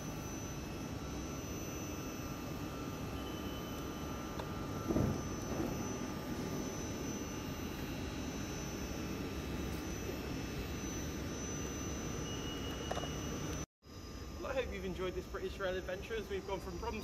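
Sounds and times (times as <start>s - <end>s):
thin high whines: 0.0s - 17.0s.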